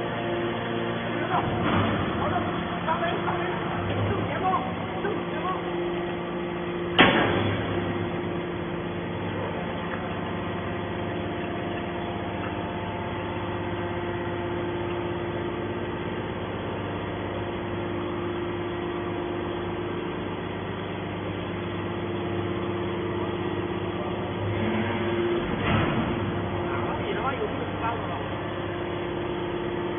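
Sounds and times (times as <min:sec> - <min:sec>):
hydraulic pump motor humming: 0:00.0 - 0:29.9.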